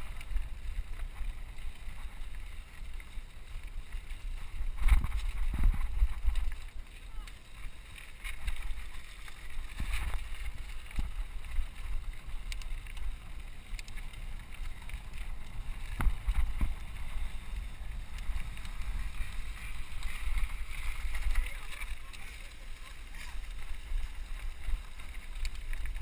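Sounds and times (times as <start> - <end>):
wind buffeting microphone: 0.0 - 7.4, 8.2 - 26.0.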